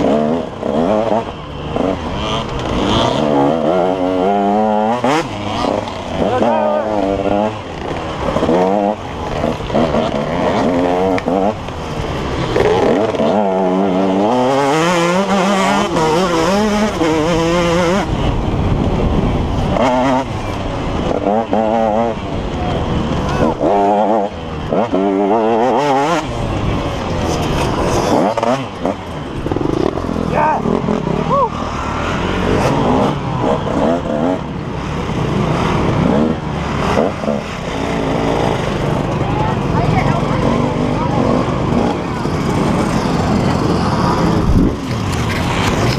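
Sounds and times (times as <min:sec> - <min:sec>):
dirt bike engine revving: 0:00.0 - 0:45.9
rough rushing noise: 0:00.0 - 0:45.9.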